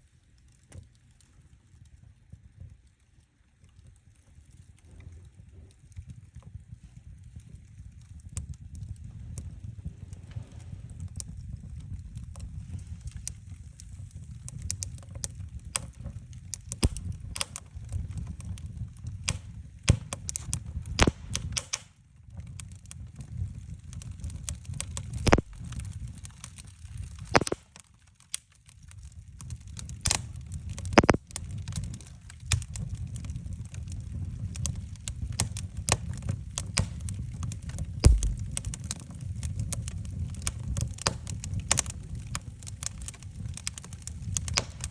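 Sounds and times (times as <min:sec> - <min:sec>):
logs crackling and popping in fire: 0:00.0 - 0:44.9
low rumble of flames: 0:00.0 - 0:44.9.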